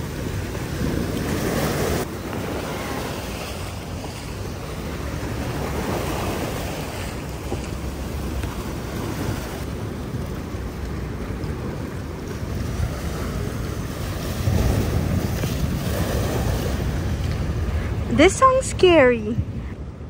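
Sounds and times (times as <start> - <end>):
waves splashing against rocks: 0.0 - 19.4
wind buffeting microphone: 0.0 - 20.0.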